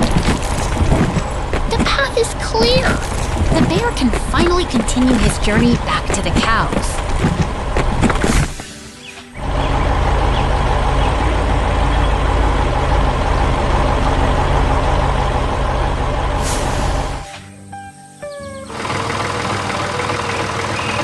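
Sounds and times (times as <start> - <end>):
tractor engine running: 0.0 - 17.4, 18.7 - 21.0.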